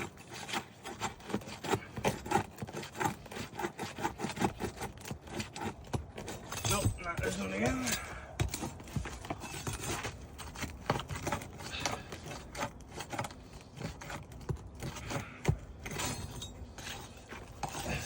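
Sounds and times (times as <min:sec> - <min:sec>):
tool prying nails under shingles: 0:00.0 - 0:18.0.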